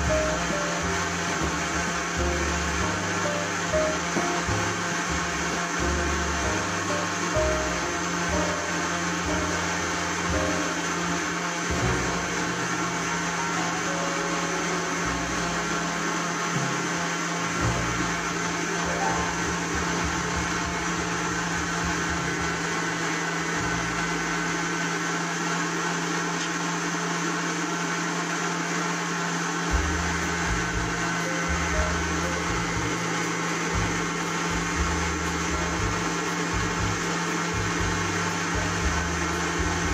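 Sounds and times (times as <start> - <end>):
stand mixer running: 0.0 - 39.9.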